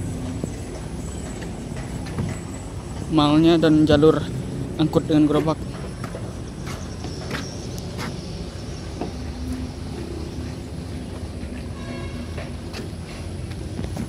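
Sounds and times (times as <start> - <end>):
footsteps on wooden planks: 0.0 - 3.1, 5.2 - 14.0.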